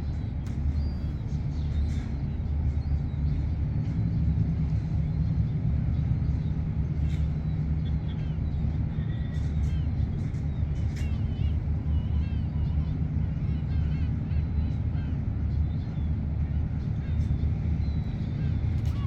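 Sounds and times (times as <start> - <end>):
ship engine drone: 0.0 - 19.0.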